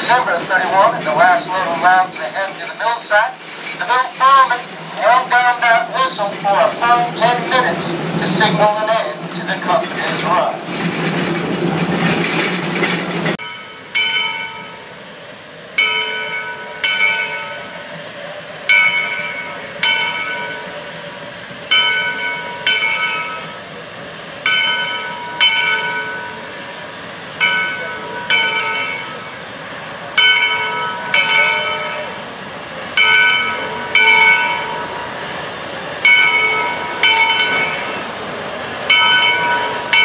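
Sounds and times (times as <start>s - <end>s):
locomotive bell ringing: 0.0s - 15.1s, 15.7s - 23.8s, 24.4s - 35.4s, 36.0s - 40.0s.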